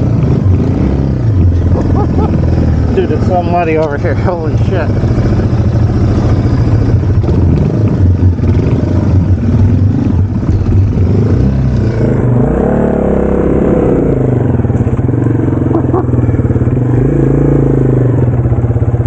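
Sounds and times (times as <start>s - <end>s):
motorcycle engine under load: 0.0s - 19.0s.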